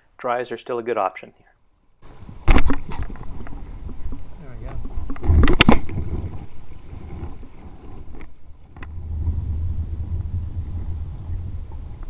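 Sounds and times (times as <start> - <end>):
wind buffeting microphone: 2.0 - 12.0.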